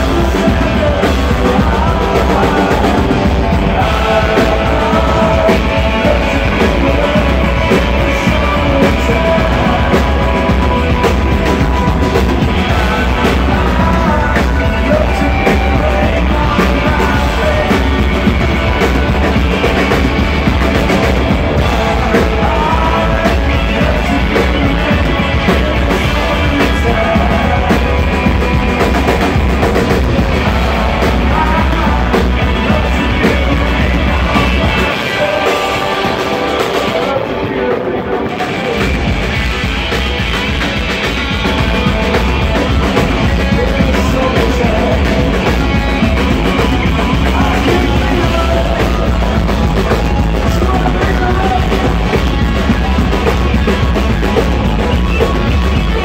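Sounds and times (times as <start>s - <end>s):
deep bass: 0.0s - 56.0s
drums: 0.0s - 56.0s
electric guitars: 0.0s - 56.0s
person singing: 0.0s - 56.0s.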